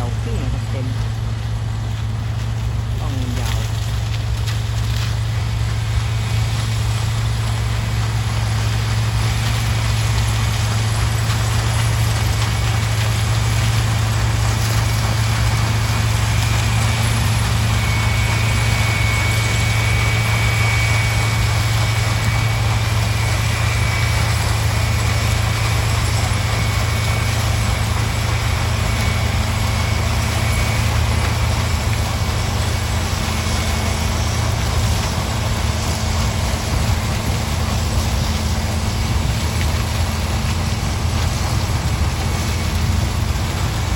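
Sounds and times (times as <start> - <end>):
faint high whine: 0.0 - 40.3
diesel engine drone: 0.0 - 43.9.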